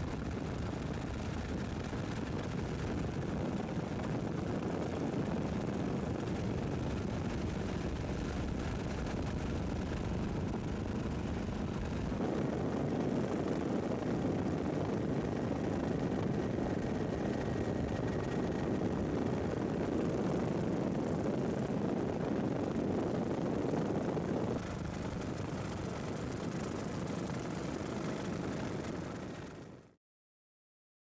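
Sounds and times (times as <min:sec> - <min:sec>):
helicopter engine and rotors rumbling: 0:00.0 - 0:29.9.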